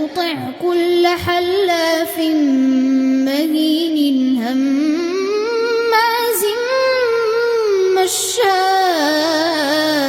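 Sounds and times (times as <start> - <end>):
child chanting melodically: 0.0 - 10.0.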